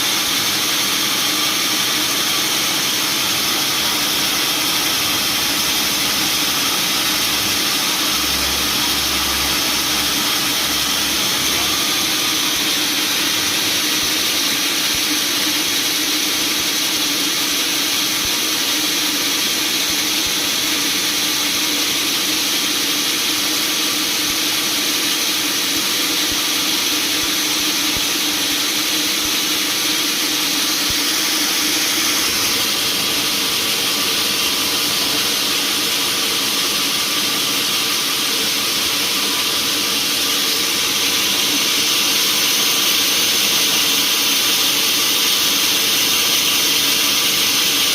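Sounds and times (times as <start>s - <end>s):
sawmill machinery drone with hiss: 0.0s - 47.9s.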